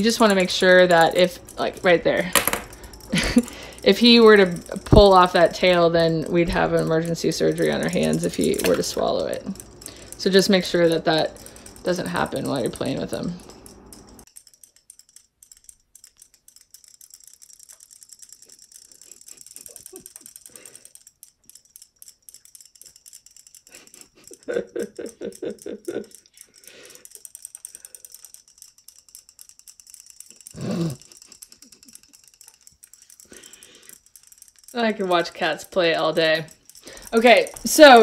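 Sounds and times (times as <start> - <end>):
robot fish toys ticking and whirring: 0.0 - 38.0.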